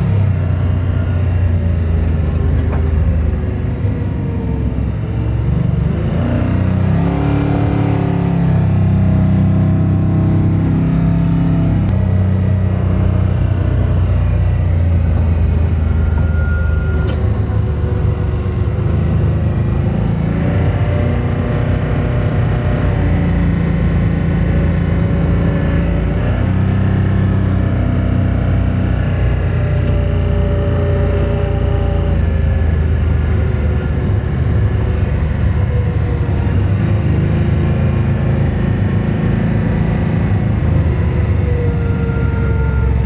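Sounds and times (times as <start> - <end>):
truck engine from inside cab: 0.0 - 43.0.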